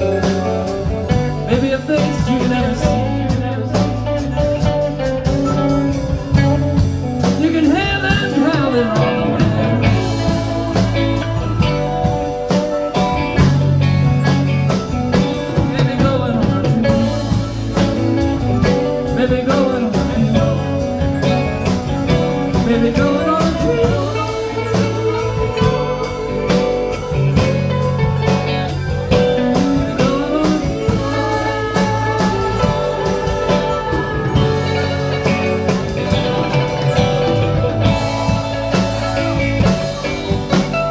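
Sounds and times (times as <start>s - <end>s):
lead guitar bending notes: 0.0s - 40.9s
rock band playing: 0.0s - 40.9s.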